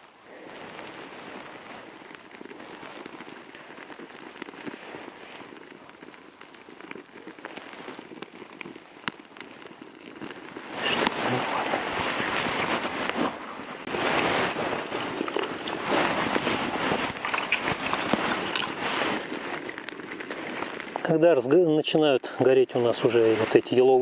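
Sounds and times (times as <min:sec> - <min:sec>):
kindling crackling as it burns: 0:00.0 - 0:24.0.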